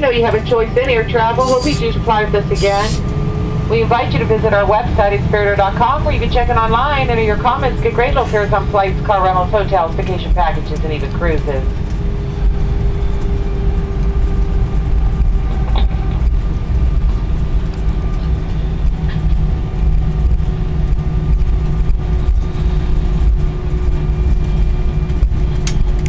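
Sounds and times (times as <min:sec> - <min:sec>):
airliner cabin rumble: 0:00.0 - 0:26.0
jet engine hum: 0:00.0 - 0:26.0.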